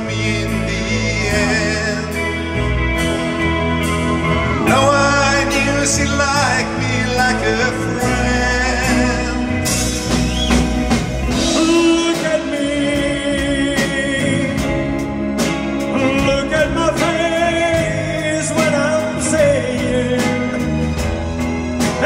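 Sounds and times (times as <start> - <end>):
drum kit with cymbals: 0.0 - 22.0
electric bass guitar: 0.0 - 22.0.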